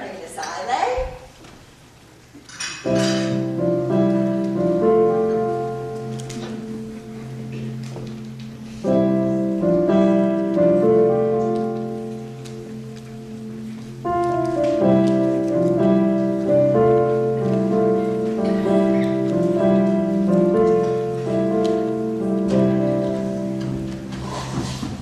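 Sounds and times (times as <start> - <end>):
gentle instrumental melody over chords: 2.9 - 24.4.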